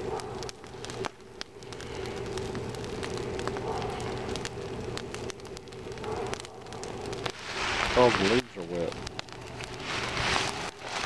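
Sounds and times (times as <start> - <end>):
faint steady hum: 0.0 - 11.0
fire crackling and popping: 0.0 - 11.0
steady hiss: 0.0 - 11.0.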